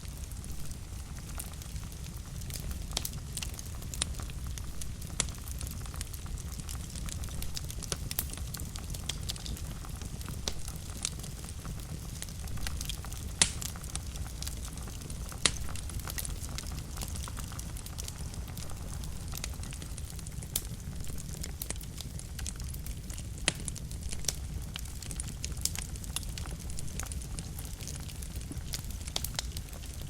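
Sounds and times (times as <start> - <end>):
fire flames rumbling: 0.0 - 30.0
wood fire crackling and popping: 0.0 - 30.0.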